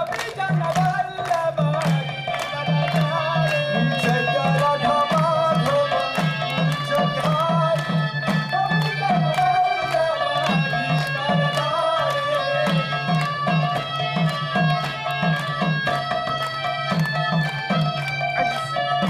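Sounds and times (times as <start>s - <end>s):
two-headed drum rhythm: 0.0s - 19.0s
wavering melody: 0.0s - 19.0s.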